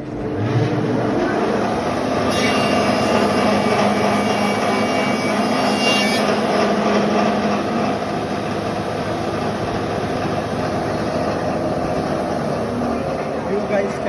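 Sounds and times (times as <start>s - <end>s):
planer cutting wood: 0.0s - 13.9s
planer humming: 0.0s - 14.0s.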